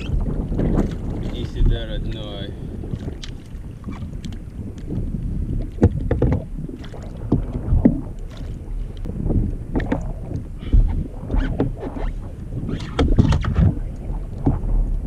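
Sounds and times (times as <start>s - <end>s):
water sloshing against kayak: 0.0s - 15.0s
water splashes: 0.0s - 15.0s
wind on microphone: 0.0s - 15.0s.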